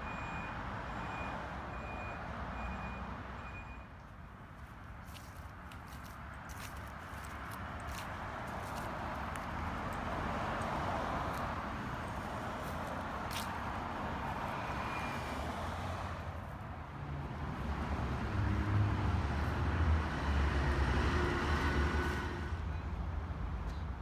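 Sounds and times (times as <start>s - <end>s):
road traffic hiss: 4.0s - 24.0s.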